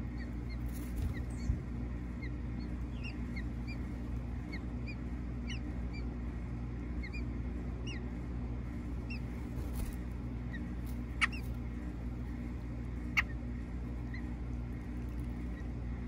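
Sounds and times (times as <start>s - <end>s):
high bird peeps: 0.0s - 1.6s, 2.2s - 6.1s, 7.0s - 8.2s, 9.0s - 15.8s
steady low hum: 0.0s - 16.0s.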